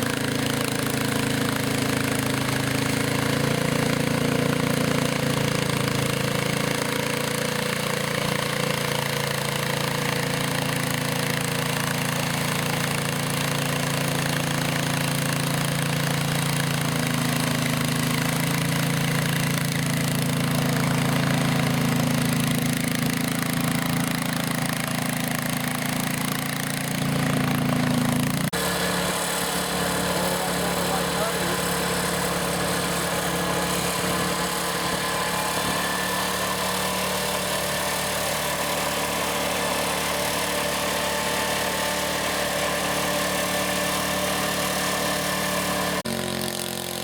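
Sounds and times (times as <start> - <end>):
garden tractor engine running: 0.0 - 47.0.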